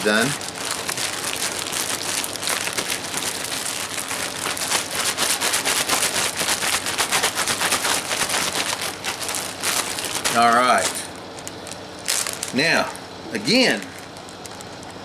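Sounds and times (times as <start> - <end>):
plastic bag crinkling with water: 0.0 - 12.6, 13.9 - 14.9.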